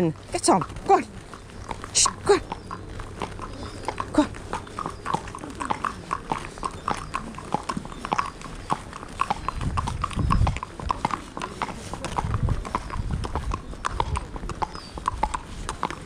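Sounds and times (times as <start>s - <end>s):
hooves clip-clopping: 0.0s - 16.0s.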